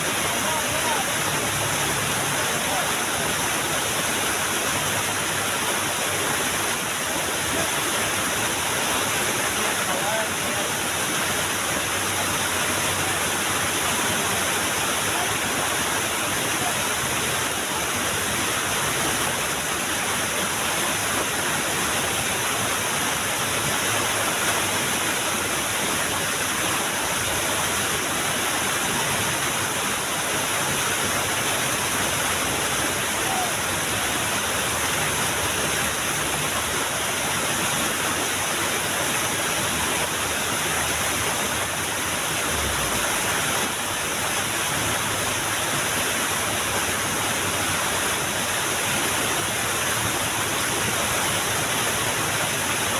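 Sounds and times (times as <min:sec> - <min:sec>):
small waterfall rushing: 0:00.0 - 0:52.9.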